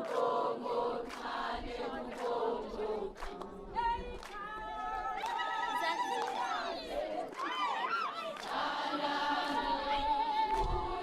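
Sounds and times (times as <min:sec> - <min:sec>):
choir singing unaccompanied: 0:00.0 - 0:11.0.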